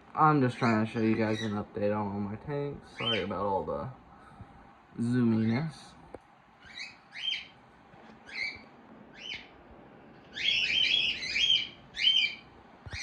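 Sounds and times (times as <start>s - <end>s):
birds chirping: 0.2s - 3.6s, 5.0s - 9.6s, 10.2s - 13.0s.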